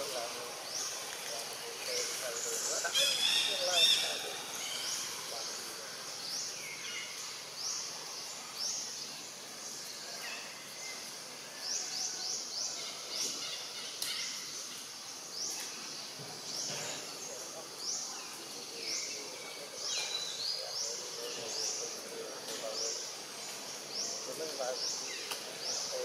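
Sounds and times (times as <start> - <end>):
high insect-like hiss: 0.0 - 26.0.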